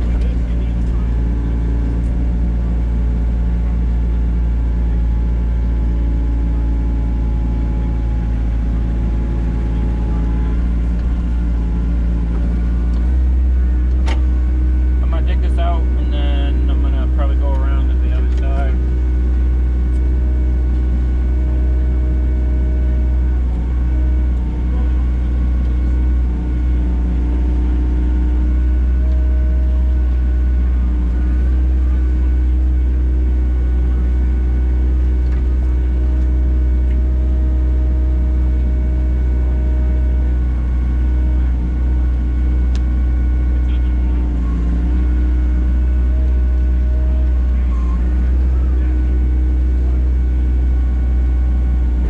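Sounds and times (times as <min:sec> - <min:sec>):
digging machine engine running: 0:00.0 - 0:52.0
hydraulic whine: 0:07.6 - 0:52.0.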